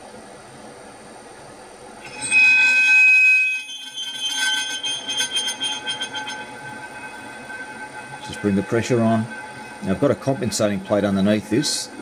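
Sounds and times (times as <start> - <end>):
drill bit squealing in steel: 2.0 - 12.0.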